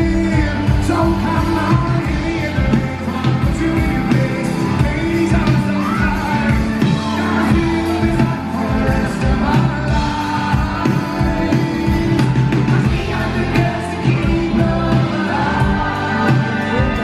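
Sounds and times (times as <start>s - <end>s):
bass guitar: 0.0s - 17.0s
drums: 0.0s - 17.0s
man singing: 0.0s - 17.0s.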